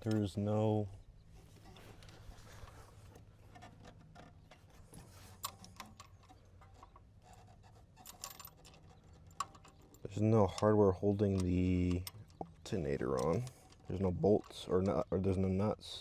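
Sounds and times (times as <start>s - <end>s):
metallic clicks of parts handled: 1.6s - 15.7s.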